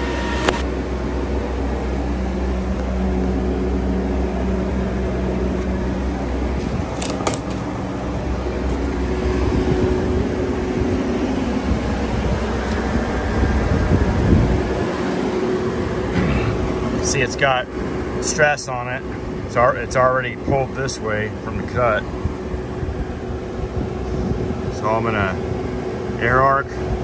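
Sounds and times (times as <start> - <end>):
machinery droning with low hum: 0.0 - 27.0.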